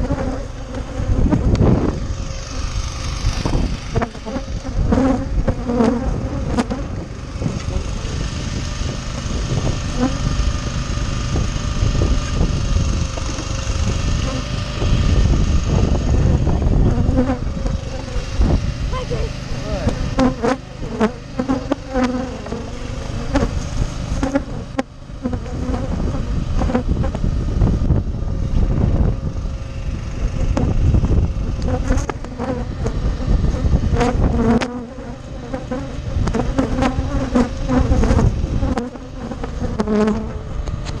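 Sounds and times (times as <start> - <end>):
honey bees buzzing: 0.0 - 41.0
steady low rumble: 0.0 - 41.0.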